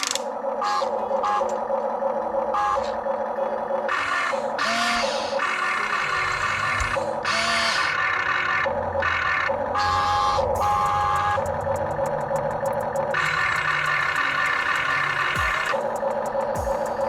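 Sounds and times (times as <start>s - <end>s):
steady rhythmic pulsing: 0.3s - 17.0s.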